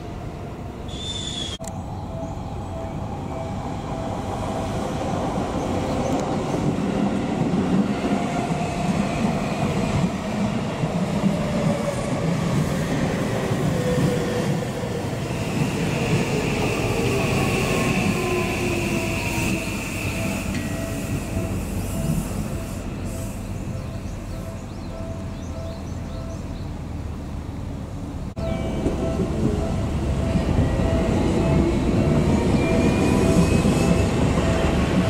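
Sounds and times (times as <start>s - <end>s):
train wheels rumbling on rails: 0.9s - 35.0s.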